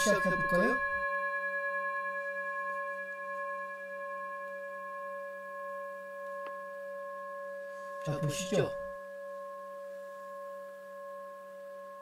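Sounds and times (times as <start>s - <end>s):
bell-like ringing tone: 0.0s - 12.0s.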